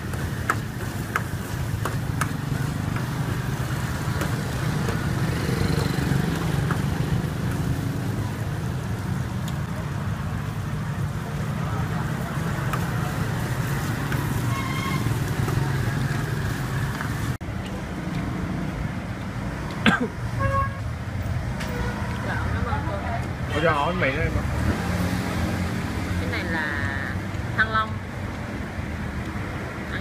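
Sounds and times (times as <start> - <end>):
low hum of street traffic: 0.0 - 30.0.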